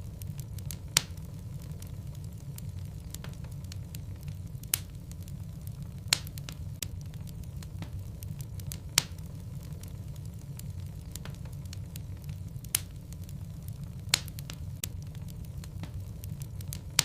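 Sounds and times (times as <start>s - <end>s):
fire rumbling and crackling: 0.0s - 17.0s
sharp fire pops: 0.0s - 17.0s.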